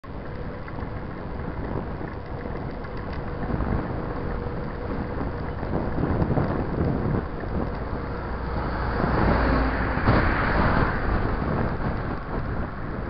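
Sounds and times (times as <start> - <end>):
low rumble of tyres on asphalt: 0.0 - 13.0
wind buffeting microphone: 0.1 - 13.0.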